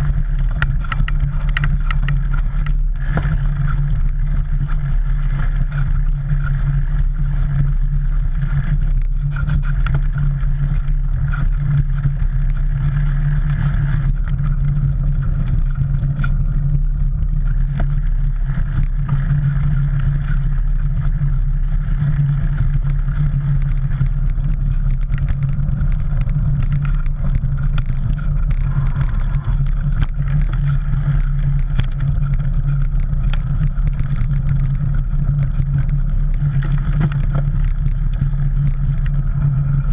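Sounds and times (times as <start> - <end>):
bike clicks and rattles: 0.0 - 39.9
bike tyres rumbling on dirt: 0.0 - 39.9.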